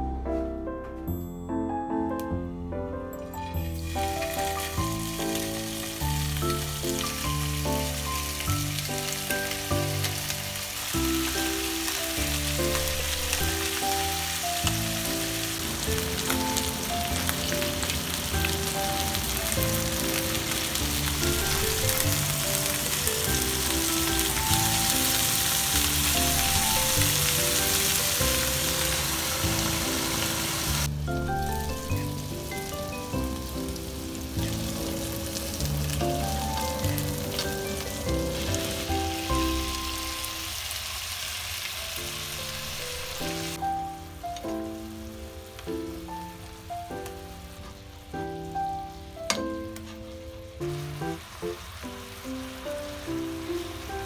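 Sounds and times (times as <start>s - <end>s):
piano background music: 0.0s - 54.0s
skewers sizzling in hot oil: 3.2s - 54.0s.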